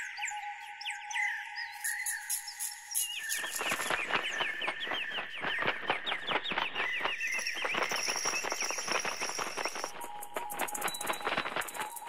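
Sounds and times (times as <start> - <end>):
bird chirping chatter: 1.7 - 12.0.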